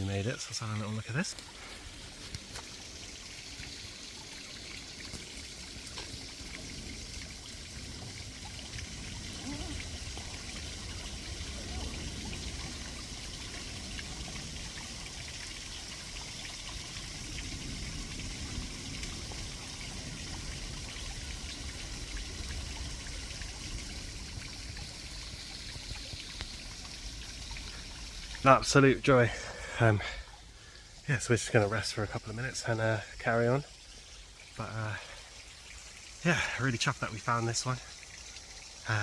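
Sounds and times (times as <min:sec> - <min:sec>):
small waterfall trickling: 0:00.0 - 0:39.0.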